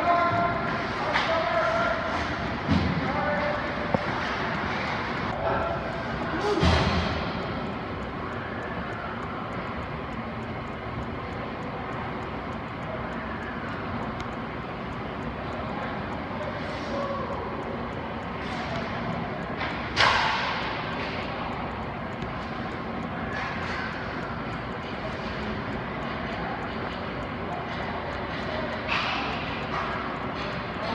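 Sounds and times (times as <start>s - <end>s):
ice arena background noise: 0.0s - 30.9s.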